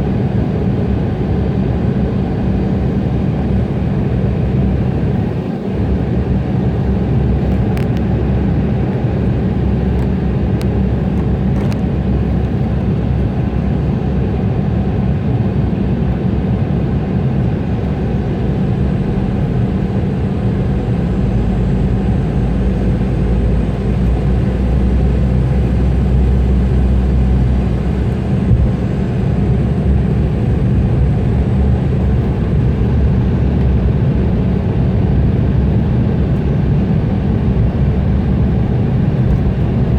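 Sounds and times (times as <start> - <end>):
aircraft cabin engine noise: 0.0 - 39.9.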